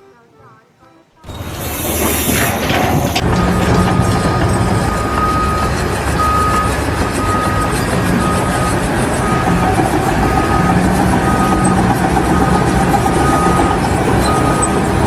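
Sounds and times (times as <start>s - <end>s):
beeping tone: 0.8s - 15.0s
heavy vehicle engine running: 1.2s - 15.0s.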